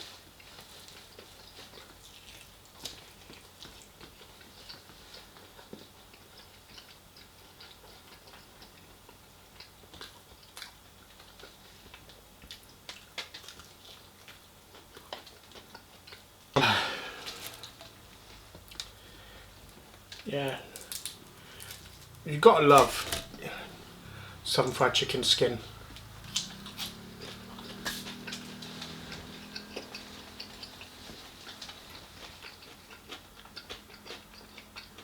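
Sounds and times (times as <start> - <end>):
mouth chewing fried chicken: 0.0 - 35.0.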